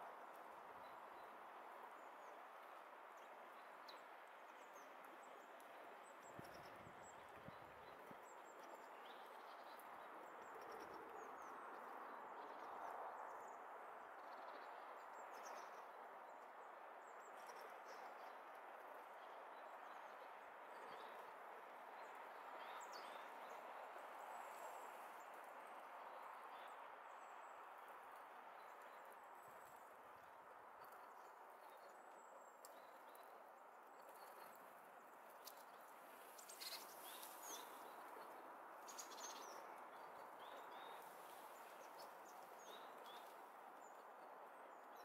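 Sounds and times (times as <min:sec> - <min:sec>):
faint outdoor background noise: 0:00.0 - 0:45.0.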